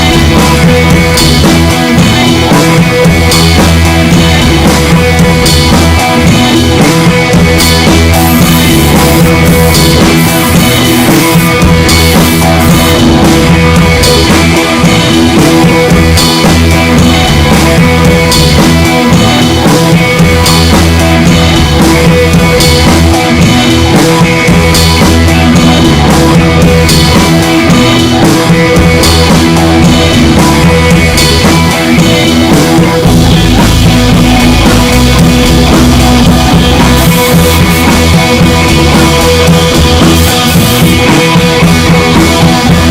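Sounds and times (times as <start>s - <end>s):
rock music with drums and guitar: 0.0s - 42.9s.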